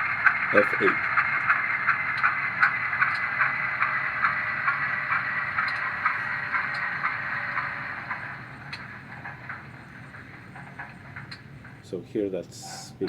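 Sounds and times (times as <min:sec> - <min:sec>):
regular ticking: 0:00.0 - 0:12.0
model diesel engine shutting down: 0:00.0 - 0:12.3.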